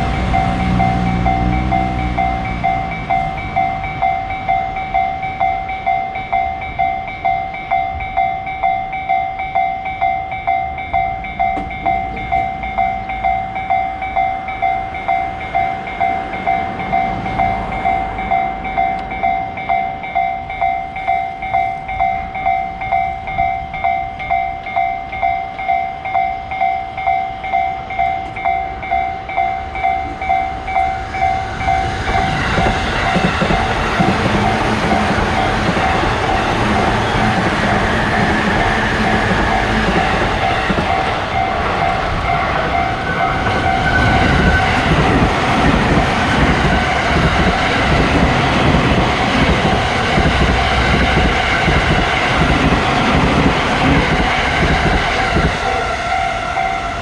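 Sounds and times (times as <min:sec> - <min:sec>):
railroad crossing bell ringing: 0:00.0 - 0:57.0
train rumbling past: 0:00.0 - 0:57.0.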